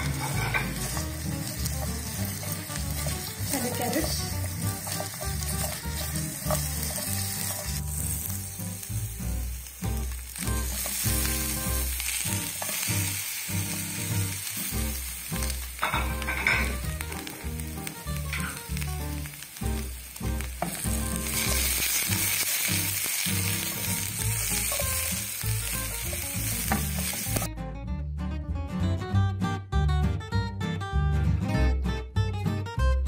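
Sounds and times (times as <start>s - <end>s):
spatula stirring vegetables: 0.0s - 27.5s
vegetables sizzling in a pan: 0.0s - 27.5s.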